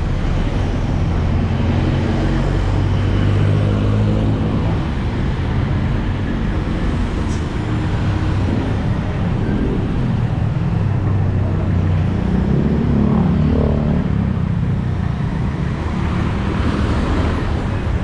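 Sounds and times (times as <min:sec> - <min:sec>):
motorcycle engines passing: 0:00.0 - 0:18.0.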